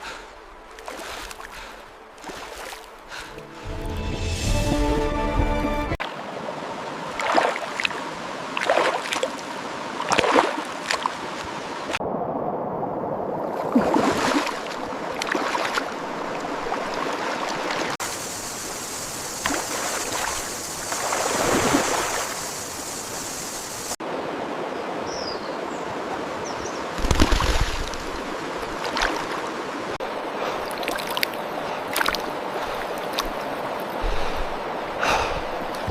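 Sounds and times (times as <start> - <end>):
water splashes and rustles: 0.0 - 4.4, 5.6 - 35.9
stream water rushing: 0.0 - 35.9.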